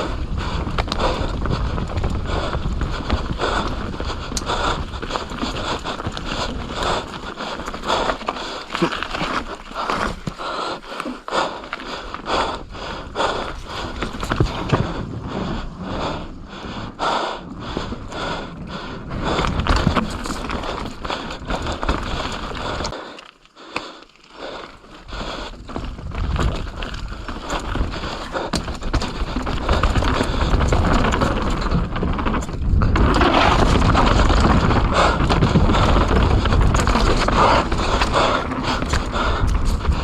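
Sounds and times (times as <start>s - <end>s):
bike rattling: 0.0s - 23.5s, 24.1s - 40.0s
bike tyres on dirt trail: 0.0s - 40.0s.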